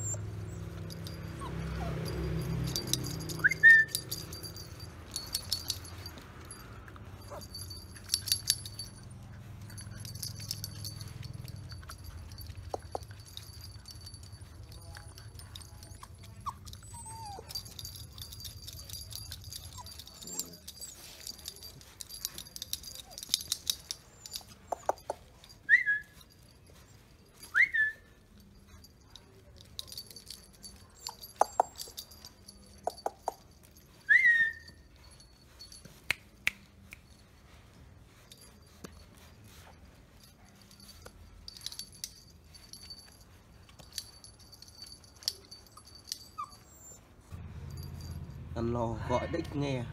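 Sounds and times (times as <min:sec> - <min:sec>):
puppies yipping: 0:00.0 - 0:29.0, 0:29.9 - 0:36.0, 0:37.2 - 0:48.1
small clicks and rustles: 0:00.0 - 0:34.1, 0:34.7 - 0:48.2.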